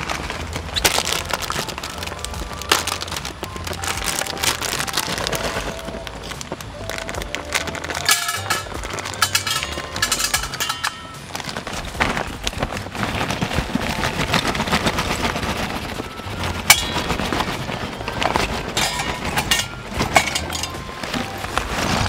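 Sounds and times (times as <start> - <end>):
charcoal chunks clattering: 0.0 - 22.0
charcoal crackling and popping: 0.0 - 22.0.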